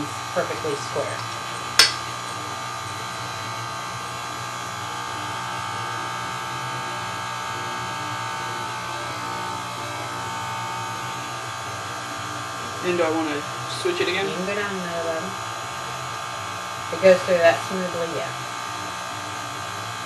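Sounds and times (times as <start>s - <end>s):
pasta roller motor humming: 0.0s - 20.0s.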